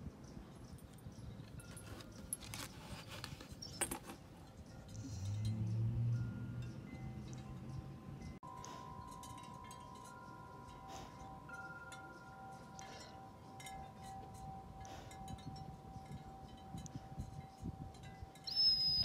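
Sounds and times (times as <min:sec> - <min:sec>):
wind chimes ringing: 0:00.2 - 0:02.7, 0:03.6 - 0:19.0.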